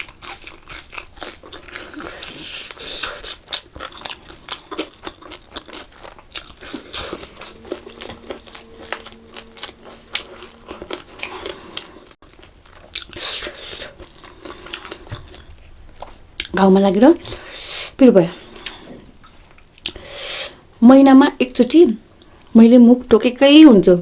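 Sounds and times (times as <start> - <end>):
chewing crunchy fried food: 0.0 - 20.2.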